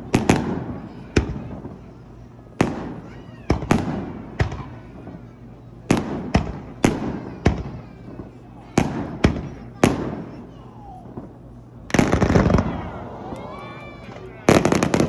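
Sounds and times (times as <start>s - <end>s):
fireworks bangs with rumble: 0.0s - 13.2s, 13.9s - 15.0s.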